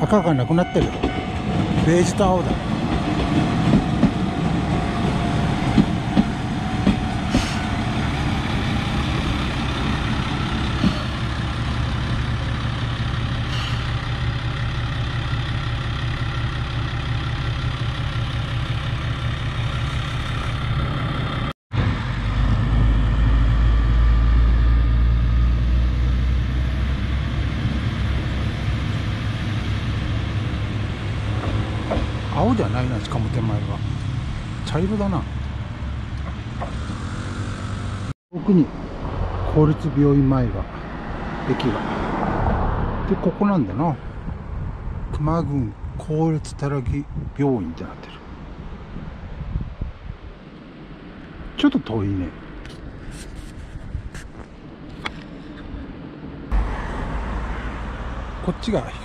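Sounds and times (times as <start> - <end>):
heavy vehicle engine rumbling: 0.0 - 59.0.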